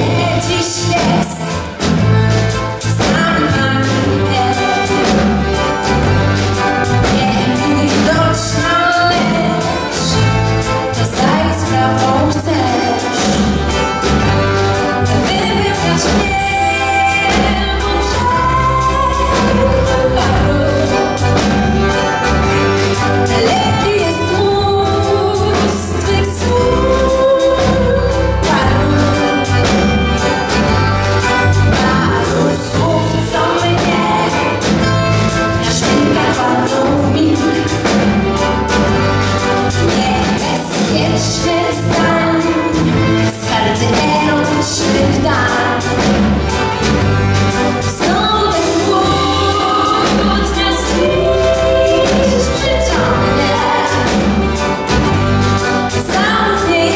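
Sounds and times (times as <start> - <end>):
woman singing: 0.0 - 1.9, 2.8 - 30.8, 31.4 - 46.6, 47.8 - 55.2, 55.8 - 56.9
accordions: 0.0 - 56.9
acoustic guitar: 0.0 - 56.9
bass guitar: 0.0 - 56.9
drums: 0.0 - 56.9.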